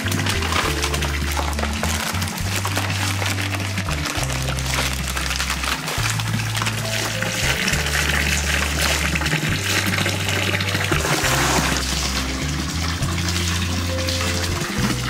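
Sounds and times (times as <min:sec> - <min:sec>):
background music with bass line: 0:00.0 - 0:15.0
water pouring and splashing: 0:00.0 - 0:15.0.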